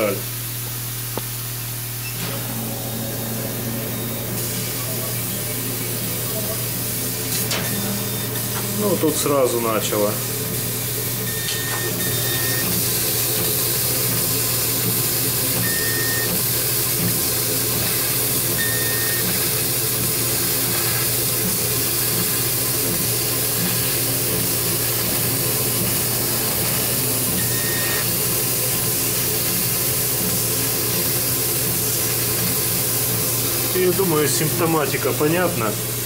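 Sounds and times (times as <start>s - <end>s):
laser cutter hiss and hum: 0.0s - 36.0s.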